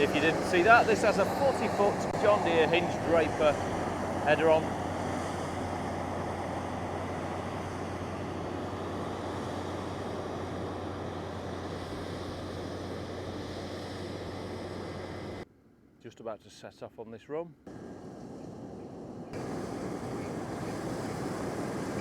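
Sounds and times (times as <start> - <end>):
combine harvester running: 0.0 - 15.4, 17.7 - 22.0.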